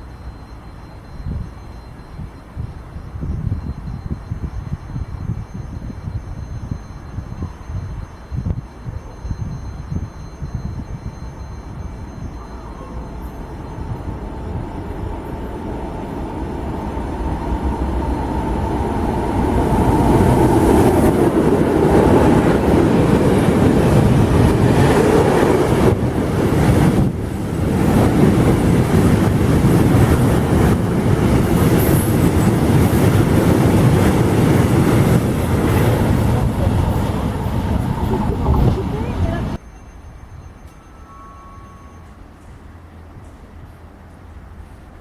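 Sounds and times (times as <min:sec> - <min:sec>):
train passing on track: 0:00.0 - 0:45.0.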